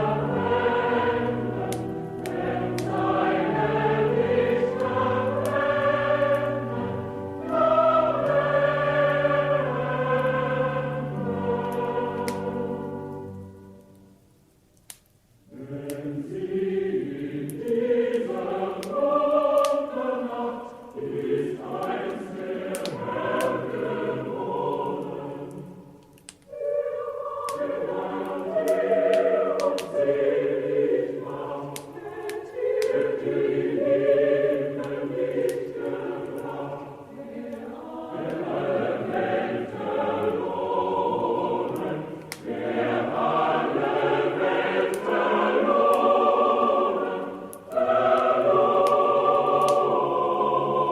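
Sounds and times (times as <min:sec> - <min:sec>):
choir singing: 0:00.0 - 0:13.9, 0:15.5 - 0:50.9
wood fire crackling: 0:00.0 - 0:50.9.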